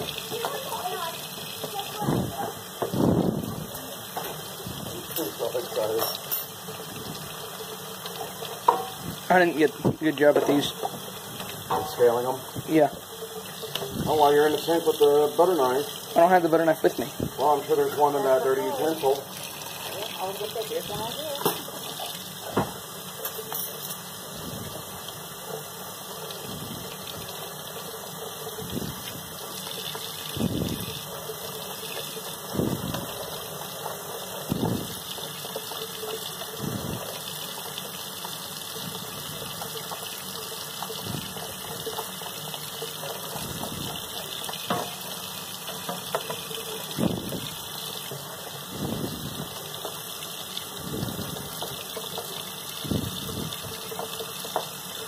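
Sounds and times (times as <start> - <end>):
faucet running into steel sink: 0.0 - 55.0.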